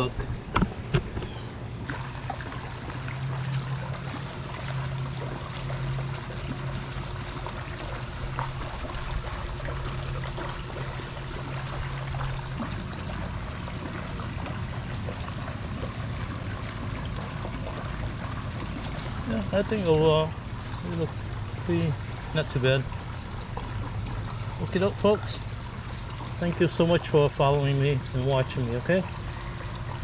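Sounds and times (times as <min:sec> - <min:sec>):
water splashing into pool: 0:00.0 - 0:30.0.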